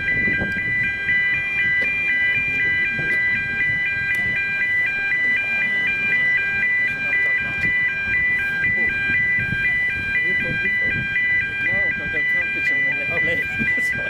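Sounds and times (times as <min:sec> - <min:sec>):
two-tone electronic alarm: 0:00.0 - 0:14.0.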